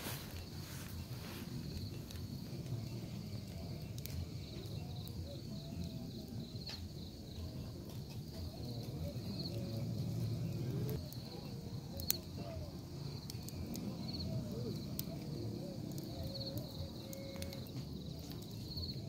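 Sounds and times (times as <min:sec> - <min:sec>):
campfire rushing: 0:00.0 - 0:19.0
crickets trilling: 0:00.0 - 0:19.0
wood popping in fire: 0:00.0 - 0:19.0.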